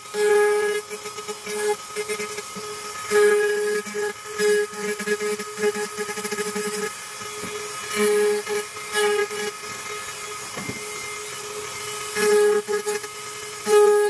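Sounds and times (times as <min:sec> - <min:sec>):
rotary tool whining: 0:00.0 - 0:14.0.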